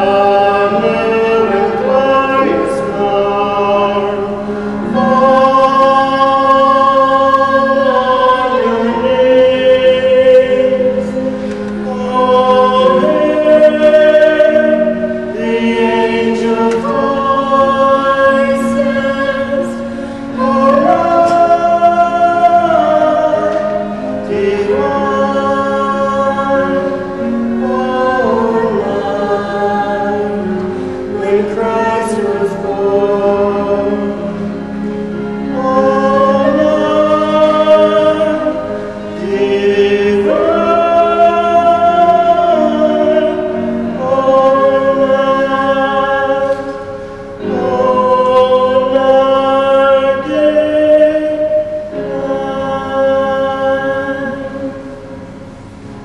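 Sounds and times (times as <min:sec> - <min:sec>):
choir singing slow carol: 0:00.0 - 0:56.0.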